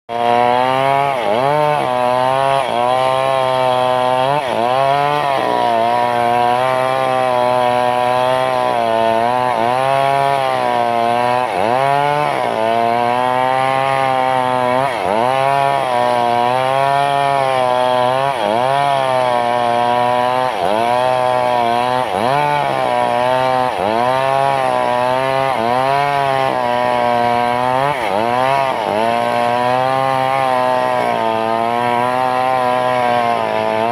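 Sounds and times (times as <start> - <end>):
chainsaw cutting wood at high revs: 0.1 - 33.9.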